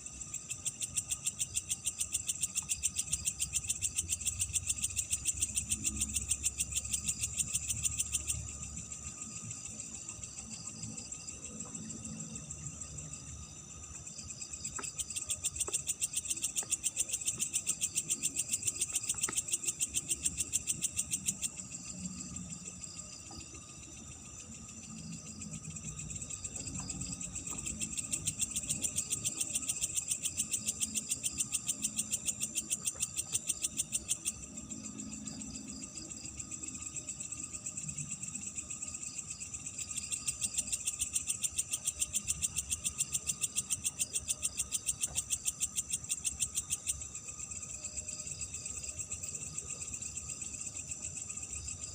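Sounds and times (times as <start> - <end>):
insects chirping: 0.0 - 51.9
thin insect tone: 0.0 - 51.9.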